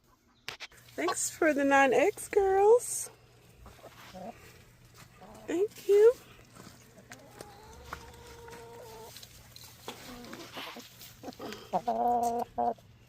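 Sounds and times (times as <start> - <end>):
hens clucking: 0.0 - 12.9.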